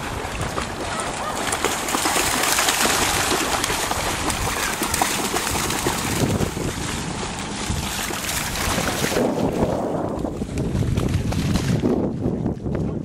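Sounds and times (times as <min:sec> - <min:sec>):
dog splashing through water: 0:00.0 - 0:12.1
wind noise on microphone: 0:00.0 - 0:13.0.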